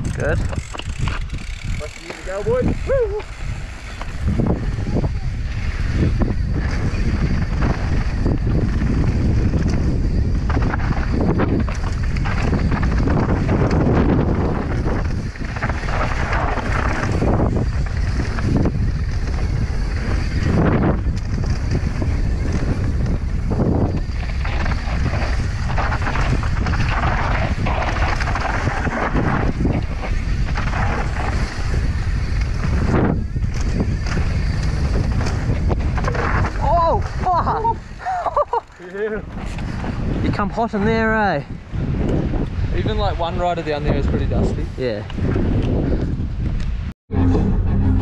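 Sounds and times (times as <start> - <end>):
bike rattling over trail: 0.0 - 46.9
wind buffeting microphone: 0.0 - 48.0.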